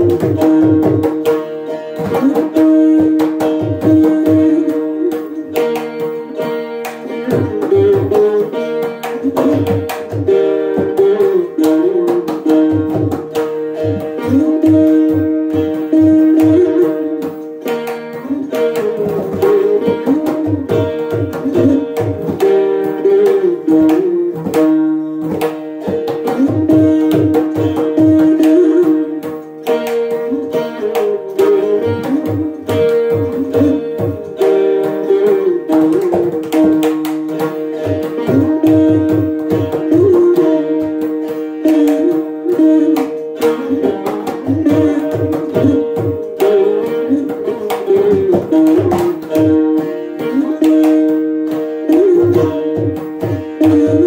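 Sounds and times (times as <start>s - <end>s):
plucked veenas melody: 0.0s - 54.0s.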